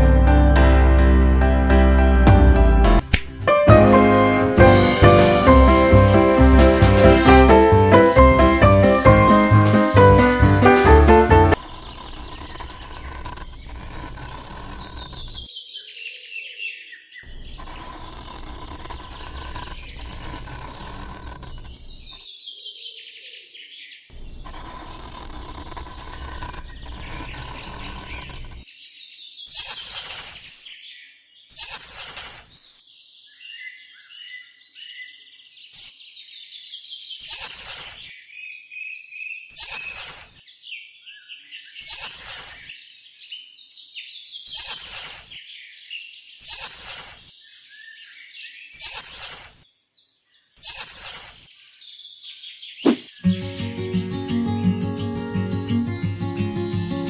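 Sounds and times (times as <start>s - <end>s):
small birds chirping: 7.5s - 57.0s.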